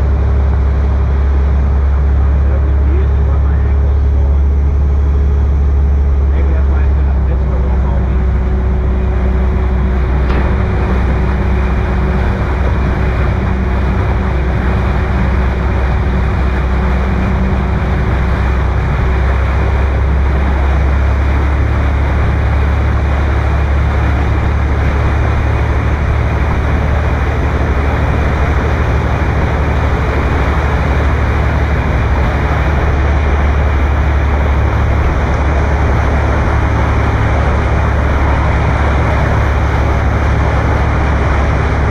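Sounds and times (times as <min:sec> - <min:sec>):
motorboat engine drone: 0:00.0 - 0:41.9
water noise: 0:00.0 - 0:41.9
wind: 0:00.0 - 0:41.9.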